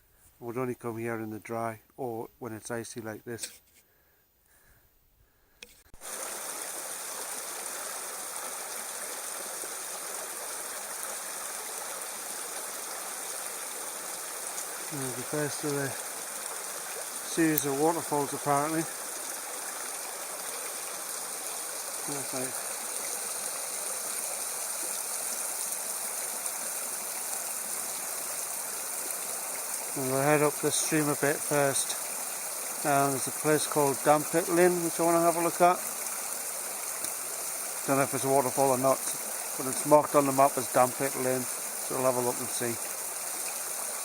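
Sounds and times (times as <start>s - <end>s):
stream rushing over rapids: 6.0s - 44.0s.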